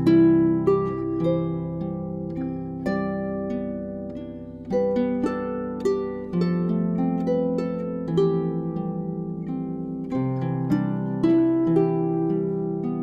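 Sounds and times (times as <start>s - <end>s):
solo harp music: 0.0s - 13.0s.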